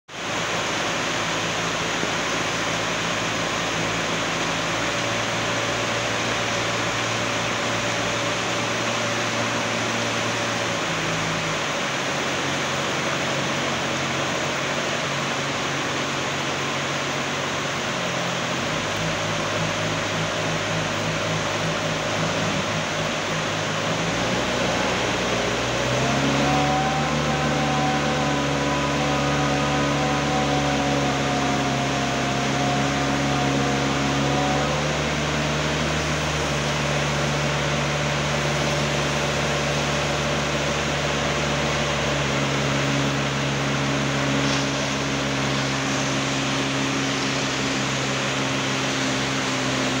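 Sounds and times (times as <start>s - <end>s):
concrete mixer engine running: 0.1s - 50.0s
faint high whine: 0.2s - 50.0s.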